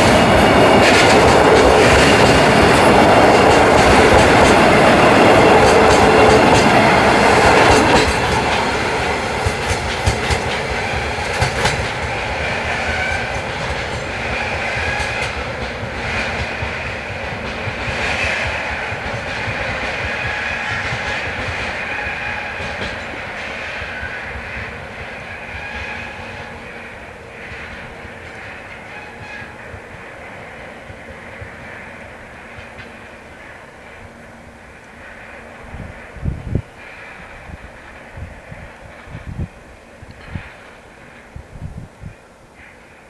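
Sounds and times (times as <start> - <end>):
freight train wheels clacking: 0.0 - 41.5
train rumble: 0.0 - 43.0.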